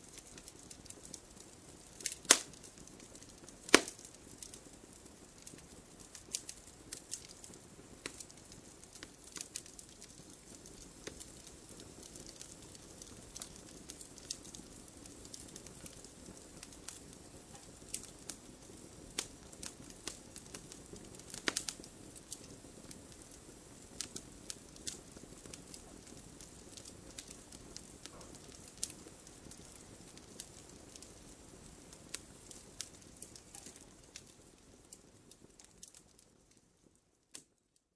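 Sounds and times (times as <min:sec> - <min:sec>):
campfire crackling and popping: 0:00.0 - 0:37.6.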